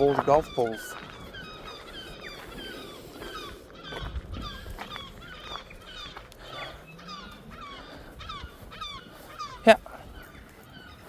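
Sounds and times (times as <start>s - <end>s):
birds honking: 0.0s - 11.0s.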